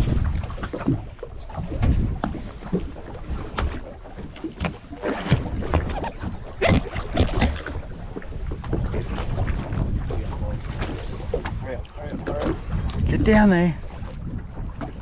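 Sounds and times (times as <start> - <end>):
water splashing against boat hull: 0.0 - 15.0
wind rumble on microphone: 0.0 - 15.0.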